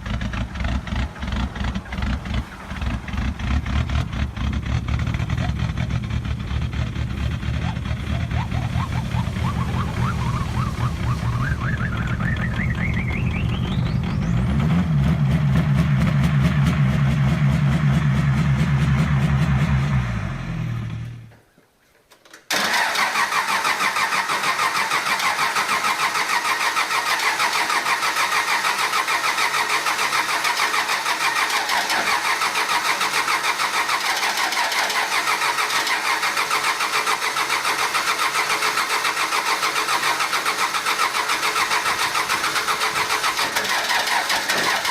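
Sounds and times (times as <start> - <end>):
diesel engine idling with clatter: 0.0 - 21.4, 24.4 - 44.9
diesel engine whining: 0.0 - 21.4, 22.5 - 44.9.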